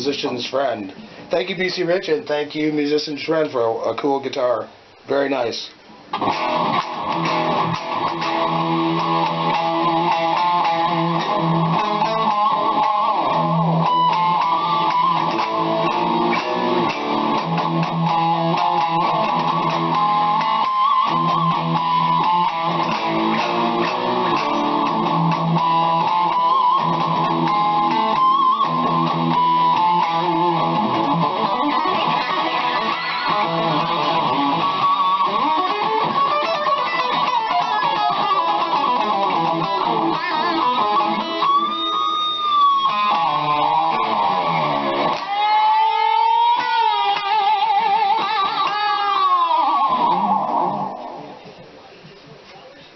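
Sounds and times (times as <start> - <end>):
electric guitar notes and chords: 6.1 - 51.6.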